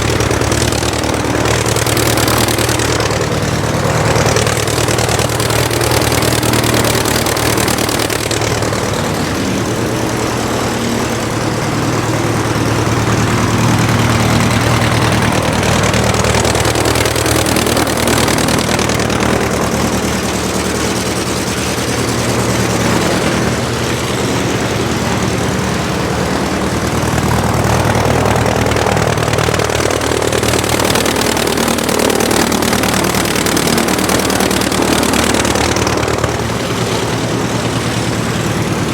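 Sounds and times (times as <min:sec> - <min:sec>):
aircraft engine running: 0:00.0 - 0:38.9.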